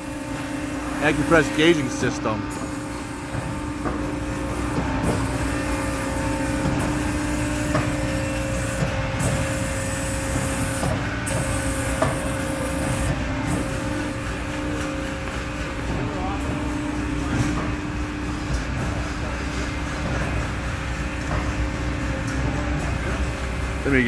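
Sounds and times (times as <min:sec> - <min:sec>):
hydraulic motor and pump hum: 0:00.0 - 0:24.0.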